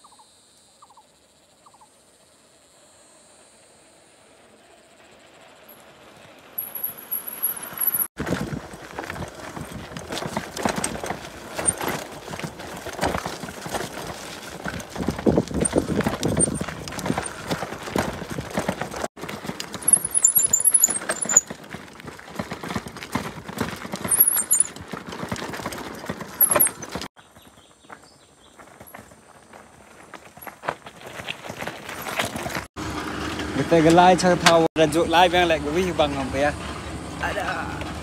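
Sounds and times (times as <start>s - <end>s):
bike rattling over rocky track: 5.8s - 38.0s
tyres crunching on stones: 6.6s - 38.0s.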